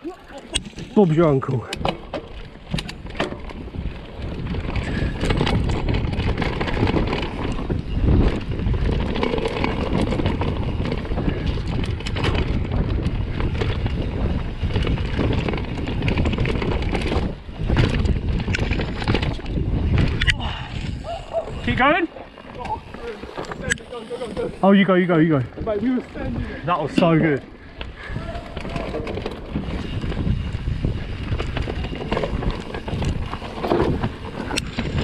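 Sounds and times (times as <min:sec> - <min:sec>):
tyres rumbling over dirt: 0:00.0 - 0:35.0
wind buffeting microphone: 0:00.0 - 0:35.0
bike knocks and rattles: 0:00.1 - 0:20.3, 0:21.6 - 0:24.6, 0:28.0 - 0:35.0.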